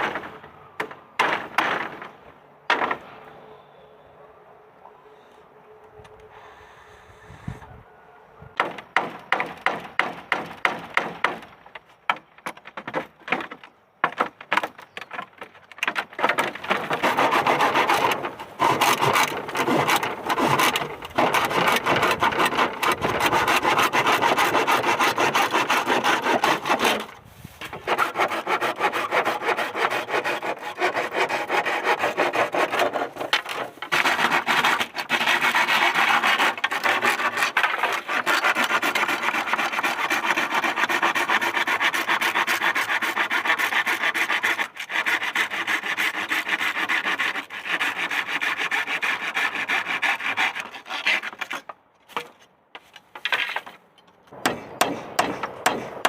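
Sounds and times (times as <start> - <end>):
hand saw cutting wood: 1.2 - 2.1, 8.6 - 53.8, 54.4 - 56.0.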